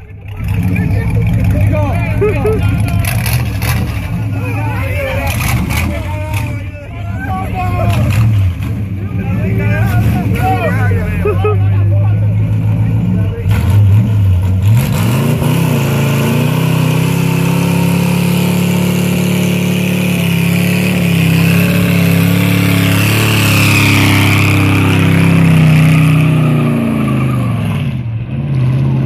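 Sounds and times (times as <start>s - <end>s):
car engine at high revs: 0.0s - 29.0s.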